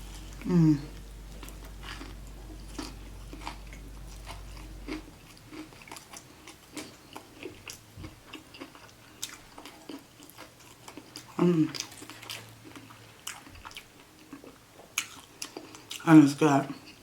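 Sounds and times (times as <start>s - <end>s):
person chewing food: 0.0s - 16.1s.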